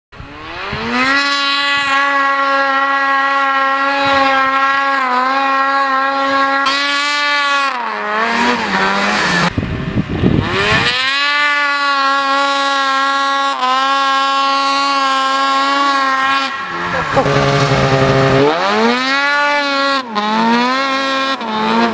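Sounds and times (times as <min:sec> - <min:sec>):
snowmobile engine revving: 0:00.2 - 0:21.9.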